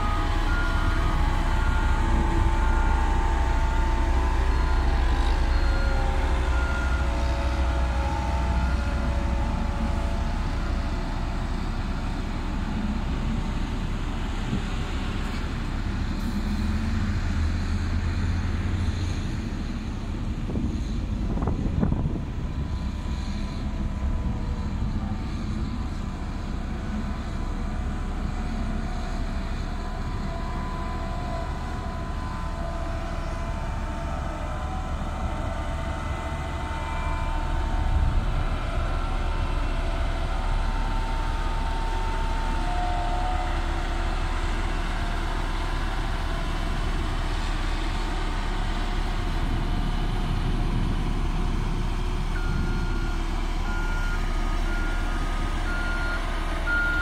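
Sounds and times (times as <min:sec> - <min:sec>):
diesel engine of roller compactor: 0:00.0 - 0:57.0.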